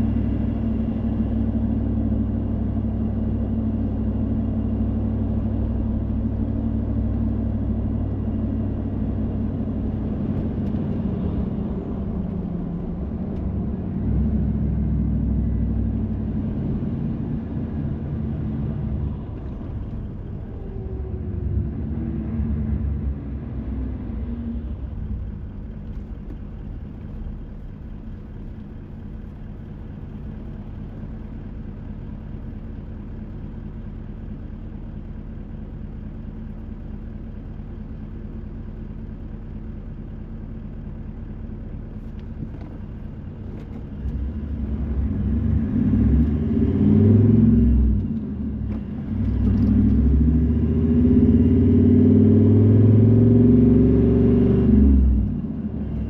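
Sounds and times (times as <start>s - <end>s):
car engine: 0.0s - 56.0s
road noise: 0.0s - 56.0s.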